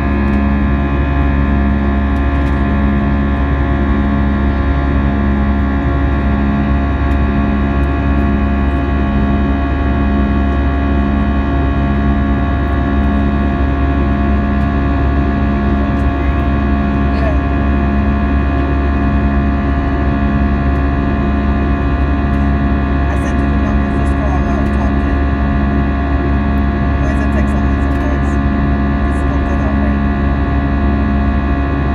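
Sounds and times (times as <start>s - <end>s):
jet engine and airflow rumble: 0.0s - 31.9s
pulsing low hum: 0.0s - 31.9s.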